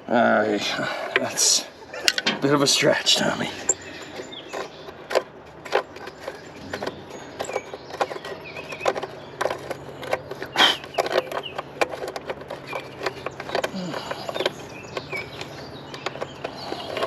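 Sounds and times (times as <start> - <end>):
hand tools clicking on metal: 1.1 - 17.0.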